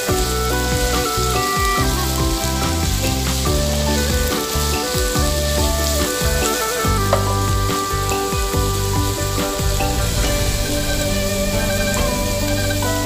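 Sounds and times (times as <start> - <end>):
background music with bass line: 0.0 - 13.0
food sizzling in a frying pan: 0.0 - 13.0.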